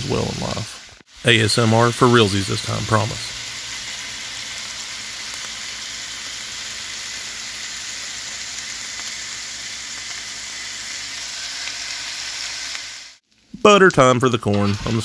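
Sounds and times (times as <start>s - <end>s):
food sizzling on griddle: 0.0s - 13.5s.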